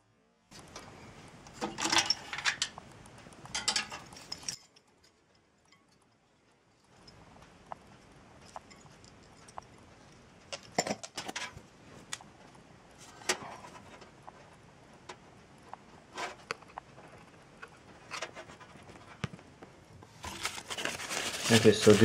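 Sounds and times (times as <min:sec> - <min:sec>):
clatter and rustle: 0:00.5 - 0:22.0.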